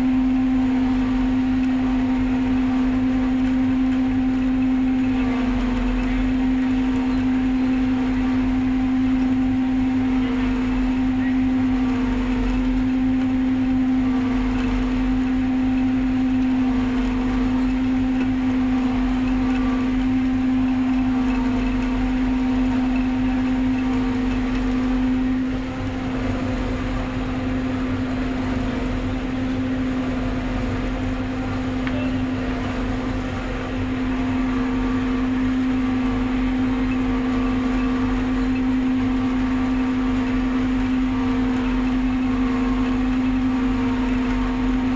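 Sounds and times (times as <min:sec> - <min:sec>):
harvester machine drone: 0:00.0 - 0:44.9.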